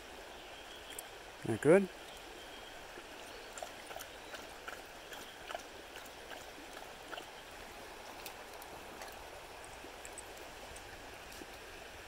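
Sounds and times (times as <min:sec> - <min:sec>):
brook babbling over rocks: 0:00.0 - 0:12.0.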